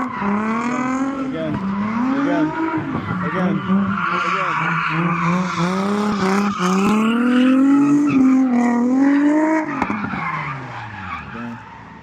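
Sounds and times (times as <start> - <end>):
car engine revving high: 0.0 - 11.7.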